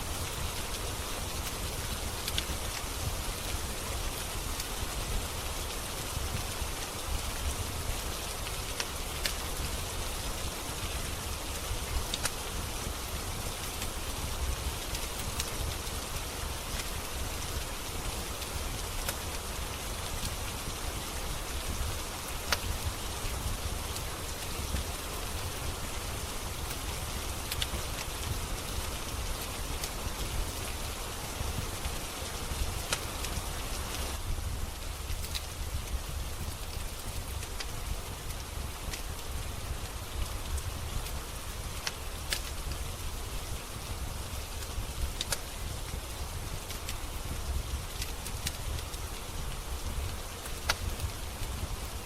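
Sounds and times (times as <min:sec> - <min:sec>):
rain falling: 0:00.0 - 0:52.0
wood fire crackling: 0:00.0 - 0:52.0.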